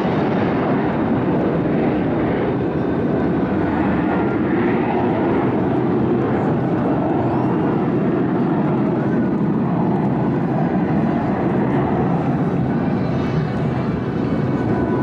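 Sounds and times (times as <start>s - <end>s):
jet engines flying overhead: 0.0s - 15.0s.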